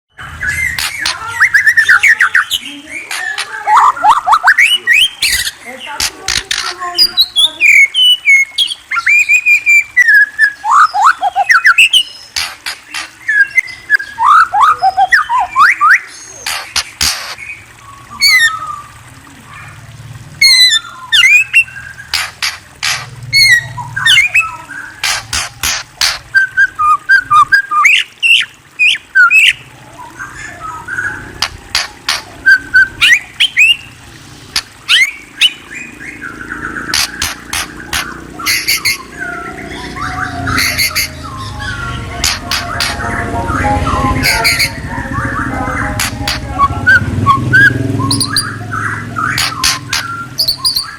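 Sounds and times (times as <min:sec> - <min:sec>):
songbird singing: 0:00.1 - 0:19.8, 0:20.4 - 0:50.9.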